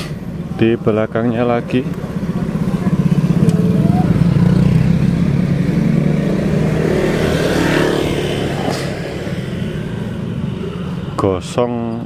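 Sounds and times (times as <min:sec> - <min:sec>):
motor scooter engine running: 0:00.2 - 0:11.1.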